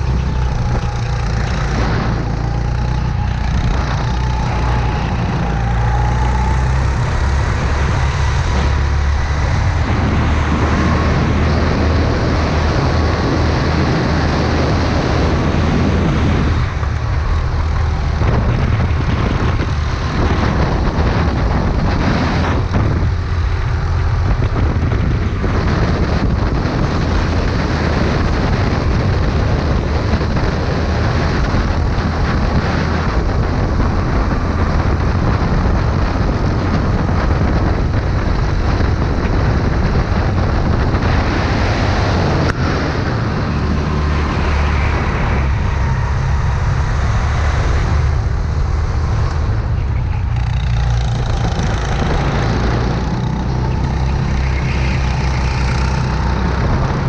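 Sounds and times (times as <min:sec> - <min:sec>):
go-kart engine running: 0:00.0 - 0:57.0
wind rushing: 0:00.0 - 0:57.0.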